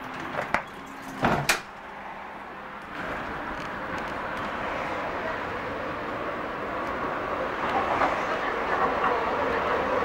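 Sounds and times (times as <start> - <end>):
light rail car running: 1.9 - 10.0.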